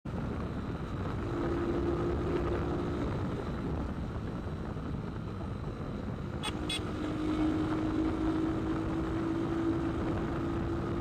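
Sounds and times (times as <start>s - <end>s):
motorcycle engine and road rumble: 0.0s - 11.0s.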